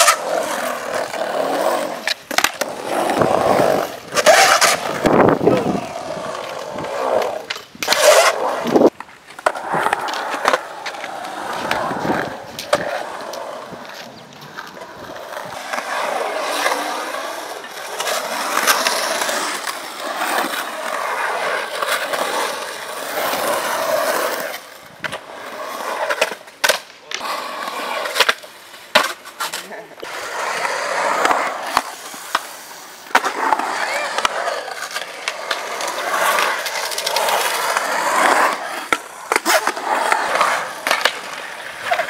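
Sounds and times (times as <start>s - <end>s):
skateboard clacking on concrete: 0.0s - 42.0s
skateboard wheels rolling on concrete: 0.0s - 42.0s.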